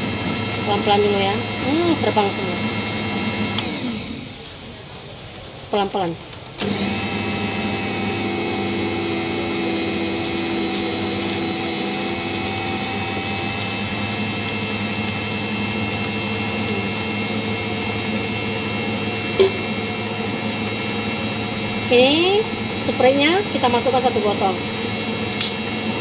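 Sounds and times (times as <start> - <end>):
stand mixer motor humming: 0.0 - 4.4, 6.6 - 26.0.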